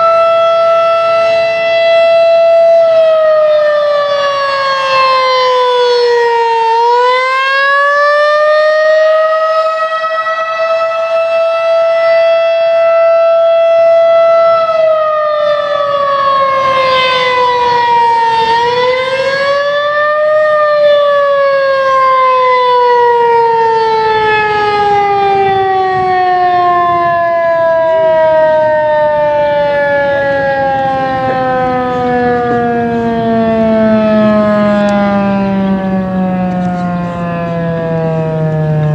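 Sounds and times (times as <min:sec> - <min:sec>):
civil defense siren wailing: 0:00.0 - 0:38.9.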